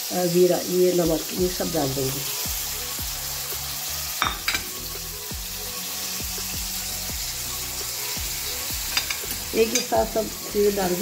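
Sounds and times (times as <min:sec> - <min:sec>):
hot oil sizzling in a pan: 0:00.0 - 0:11.0.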